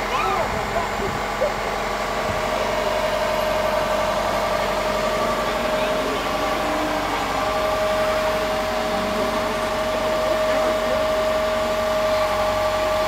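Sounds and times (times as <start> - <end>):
crane whining: 0.0 - 13.0.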